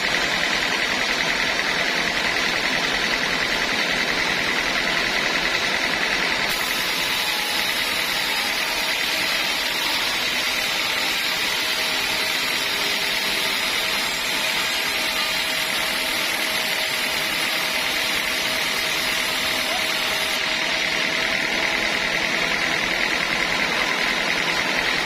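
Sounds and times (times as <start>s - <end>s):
sawmill machinery whirring: 0.0s - 25.0s.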